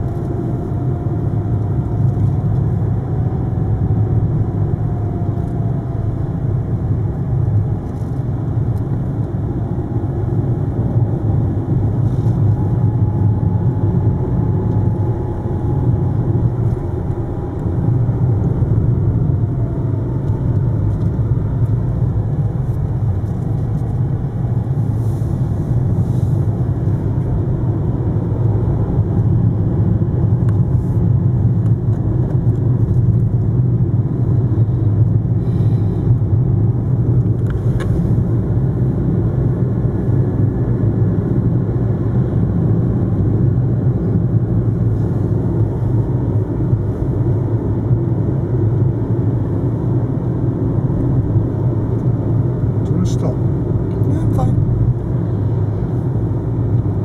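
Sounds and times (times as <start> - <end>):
car interior engine and tyre rumble: 0.0 - 57.0.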